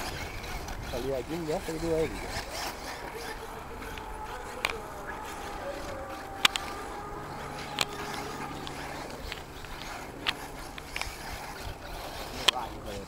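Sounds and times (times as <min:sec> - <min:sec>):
sharp clicks: 0:00.0 - 0:12.7
faint low hum: 0:00.0 - 0:13.0.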